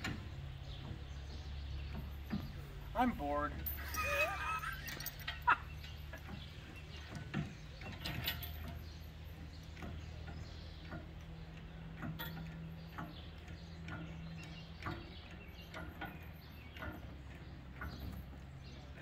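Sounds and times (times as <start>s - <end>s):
lifting chain clinking: 0.0s - 19.0s.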